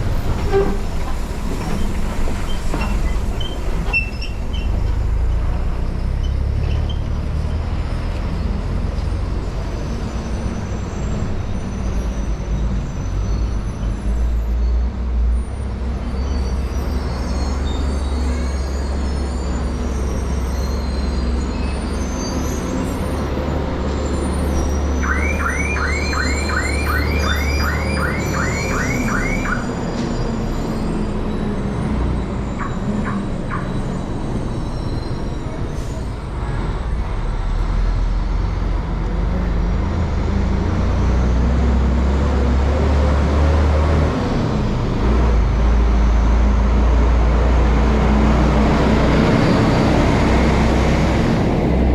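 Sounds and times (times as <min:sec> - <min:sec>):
vehicle engine rumbling: 0:00.0 - 0:51.9.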